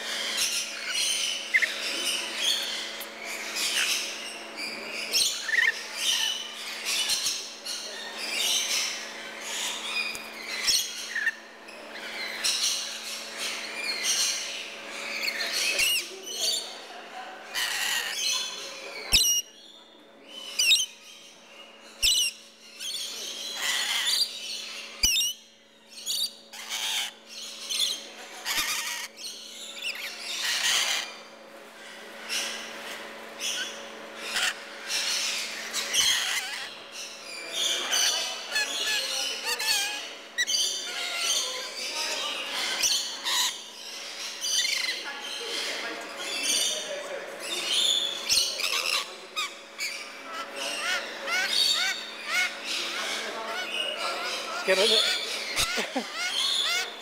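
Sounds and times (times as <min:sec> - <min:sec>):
parrots screeching and chirping: 0:00.0 - 0:16.8, 0:17.4 - 0:19.6, 0:20.4 - 0:57.0
steady low hum: 0:00.0 - 0:57.0.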